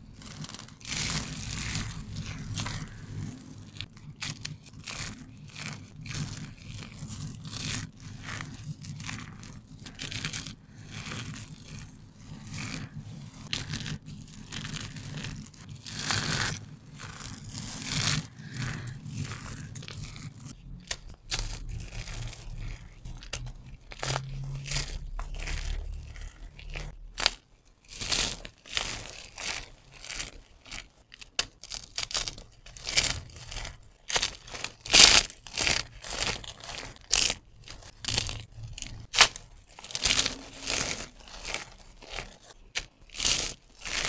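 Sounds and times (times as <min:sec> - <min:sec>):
soap flakes crunching: 0:00.0 - 0:44.0.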